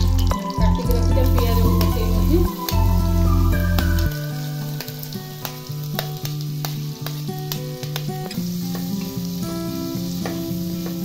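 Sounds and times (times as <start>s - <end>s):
background music: 0.0s - 11.0s
onions sizzling in hot oil: 0.0s - 11.0s.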